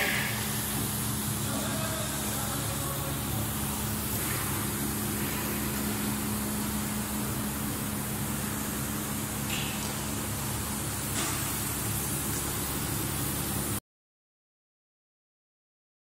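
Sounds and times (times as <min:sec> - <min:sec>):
broad even hiss: 0:00.0 - 0:13.8
low mechanical hum: 0:00.0 - 0:13.8.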